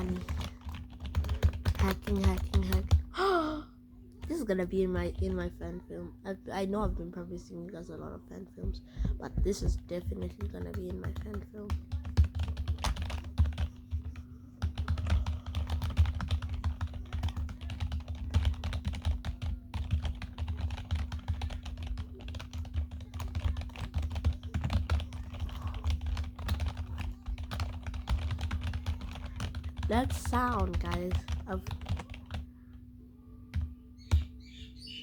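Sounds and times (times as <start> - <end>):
rapid keyboard typing: 0.0 - 3.2, 4.2 - 5.8, 8.6 - 32.8, 33.5 - 34.4
steady low hum: 0.0 - 35.0.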